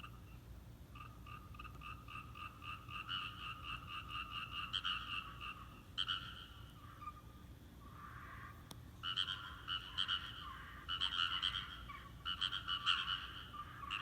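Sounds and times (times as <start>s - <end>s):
frogs croaking: 0.0s - 14.0s.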